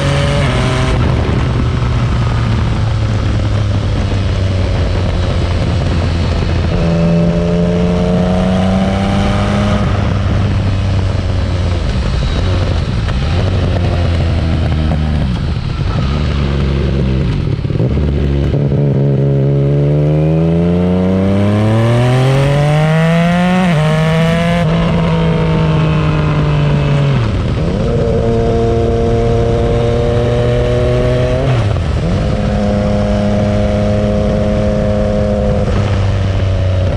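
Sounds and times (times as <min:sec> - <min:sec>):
motorcycle engine while riding: 0:00.0 - 0:36.9.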